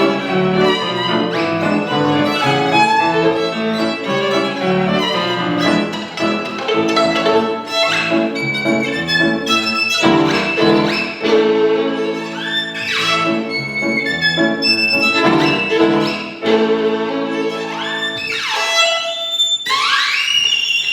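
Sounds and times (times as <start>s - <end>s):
piano accompaniment: 0.0s - 19.4s
violin playing: 0.0s - 20.9s.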